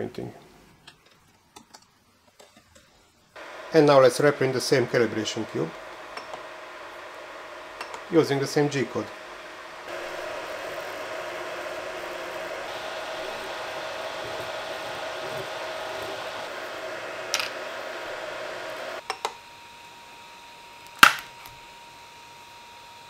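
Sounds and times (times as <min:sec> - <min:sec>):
printer fans and motors whirring: 0:03.4 - 0:23.0.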